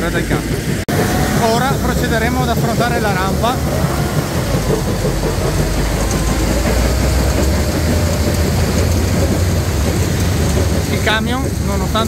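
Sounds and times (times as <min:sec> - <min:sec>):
diesel truck engine pulling: 0:00.0 - 0:12.0
steady whine: 0:00.0 - 0:12.0.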